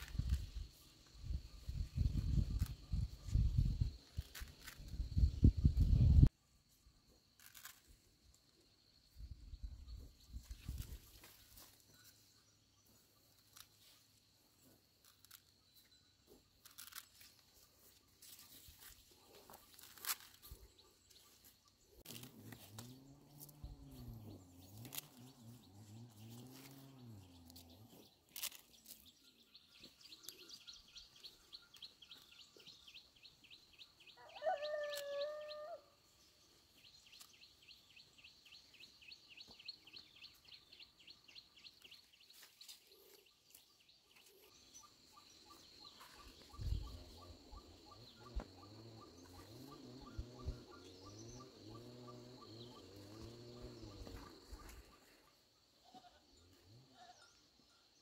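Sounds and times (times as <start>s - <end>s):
birds chirping: 9.6s - 58.0s.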